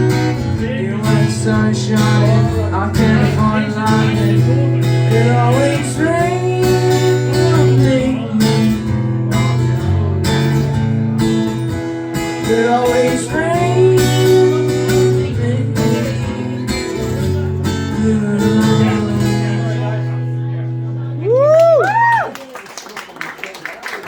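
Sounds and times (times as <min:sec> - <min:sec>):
acoustic guitar strumming chords: 0:00.0 - 0:21.2.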